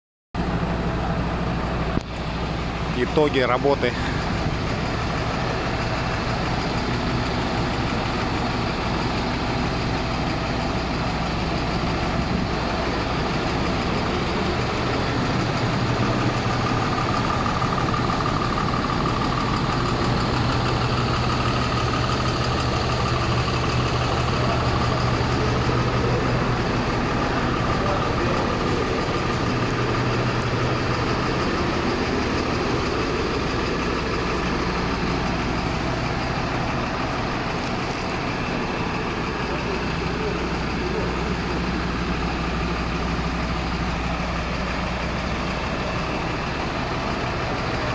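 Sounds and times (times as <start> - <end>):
diesel truck engine idling: 0.4 - 47.9.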